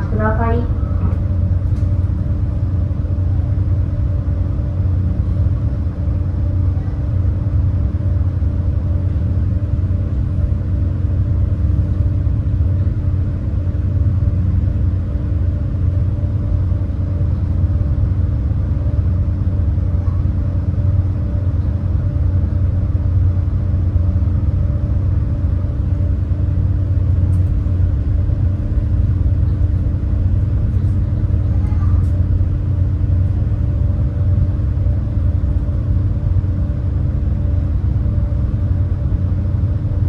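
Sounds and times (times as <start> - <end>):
boat engines droning: 0.0 - 40.0.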